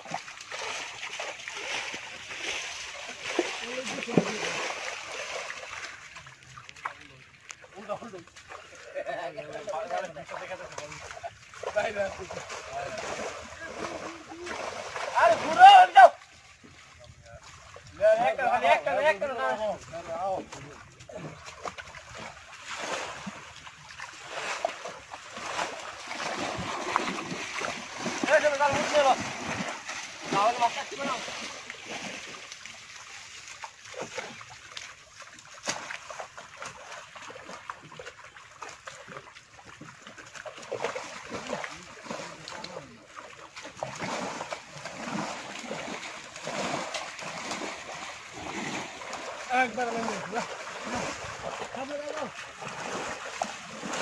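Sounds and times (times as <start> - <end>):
water splashing around wading man: 0.0 - 54.0.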